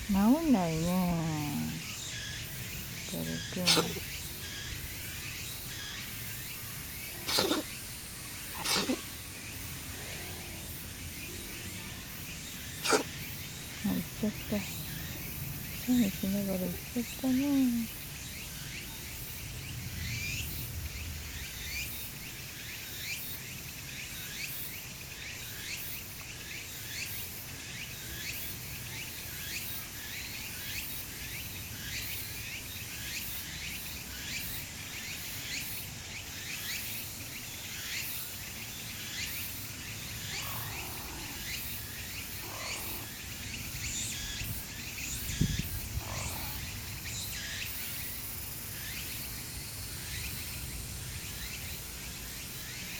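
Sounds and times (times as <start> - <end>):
insects and birds chirping: 0.0 - 52.9.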